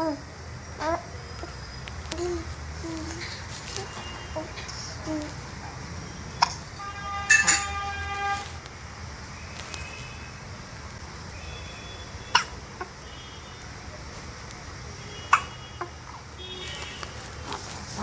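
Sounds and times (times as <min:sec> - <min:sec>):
faint chirping tones: 0:00.0 - 0:08.0, 0:08.8 - 0:17.1.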